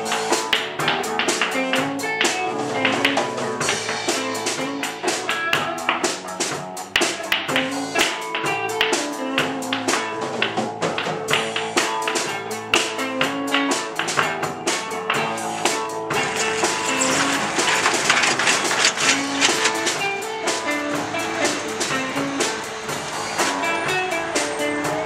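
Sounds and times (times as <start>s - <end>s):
plucked guitar notes: 0.0s - 25.0s.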